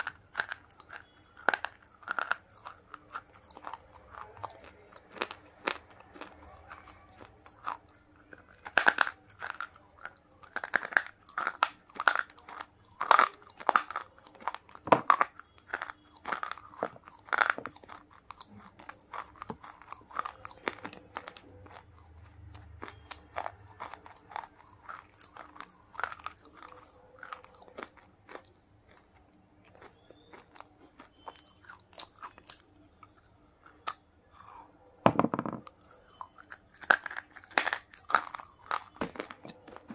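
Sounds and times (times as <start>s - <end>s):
person crunching a dry bar: 0.0s - 34.8s, 35.6s - 39.9s.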